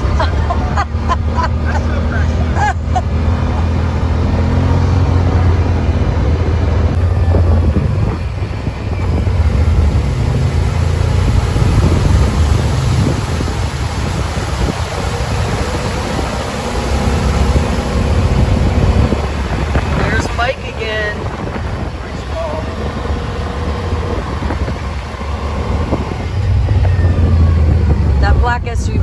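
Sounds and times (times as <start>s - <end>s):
constant rushing noise: 0.0s - 29.0s
vehicle engine running low speed: 0.0s - 29.0s.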